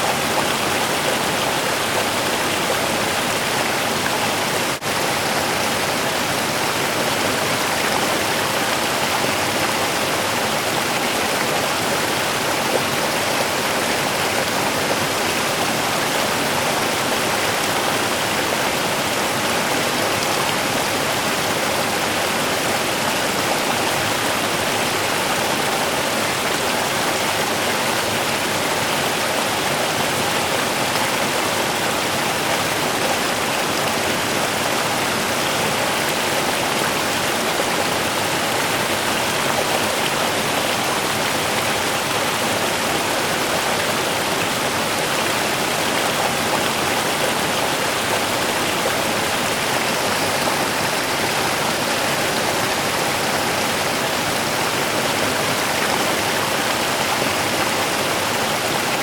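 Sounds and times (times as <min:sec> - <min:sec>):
small river flowing: 0:00.0 - 0:59.0.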